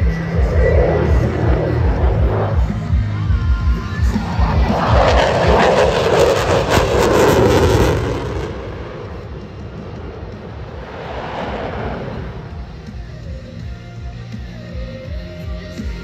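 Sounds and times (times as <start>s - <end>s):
jet aircraft passing: 0.0s - 14.4s.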